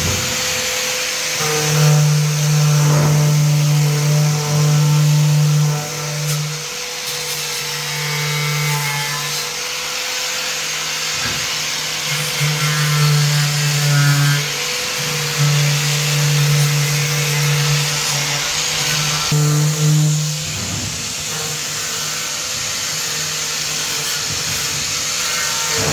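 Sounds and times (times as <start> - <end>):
electric power tool humming: 0.0 - 25.9.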